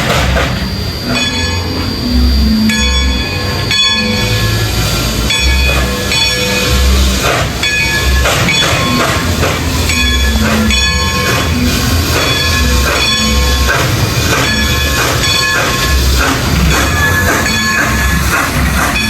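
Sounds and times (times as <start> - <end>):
steam locomotive chugging: 0.0 - 19.0.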